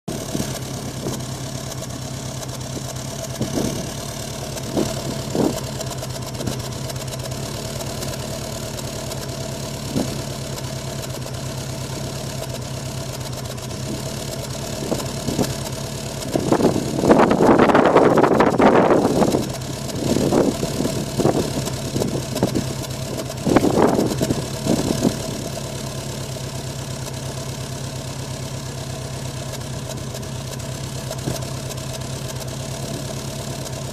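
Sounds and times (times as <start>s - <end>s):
engine idling roughly: 0.0s - 33.9s.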